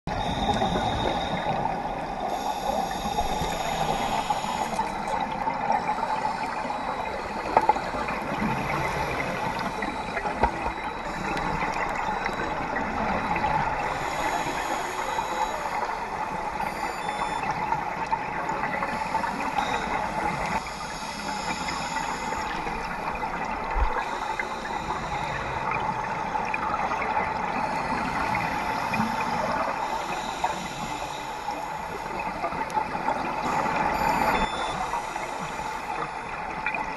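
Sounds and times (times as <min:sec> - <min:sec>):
scuba exhaust bubbles: 0:00.1 - 0:36.9.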